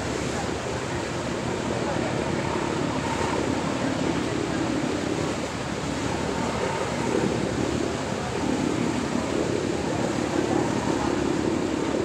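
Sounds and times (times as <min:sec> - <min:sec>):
water noise: 0:00.0 - 0:12.0.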